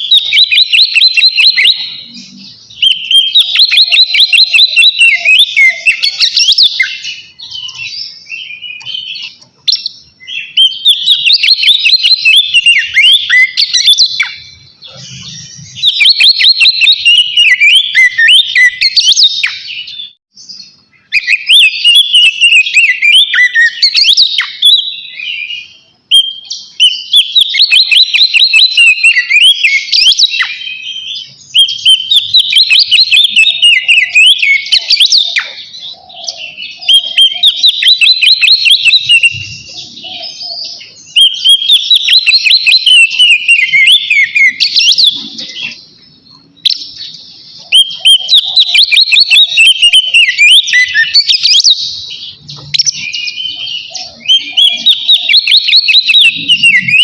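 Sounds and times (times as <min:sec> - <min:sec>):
songbird whistling song: 0:00.0 - 0:57.0.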